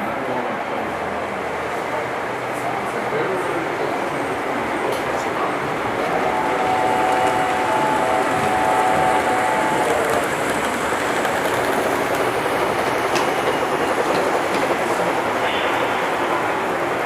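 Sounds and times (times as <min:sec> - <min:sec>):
model train wheels rumbling: 0:03.1 - 0:17.0.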